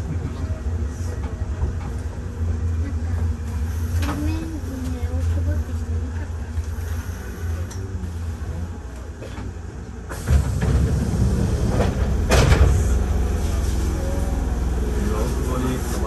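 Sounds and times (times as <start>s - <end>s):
train sliding doors opening: 0.0s - 5.9s, 6.5s - 16.0s
steady low rumble: 0.0s - 16.0s.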